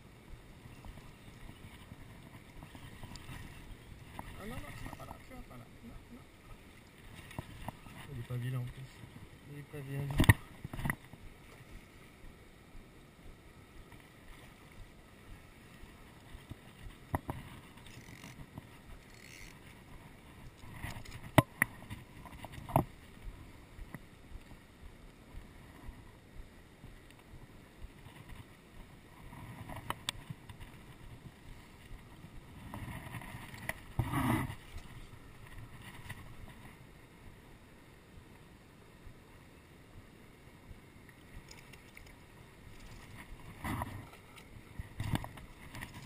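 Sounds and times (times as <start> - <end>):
faint outdoor background: 0.0 - 46.0.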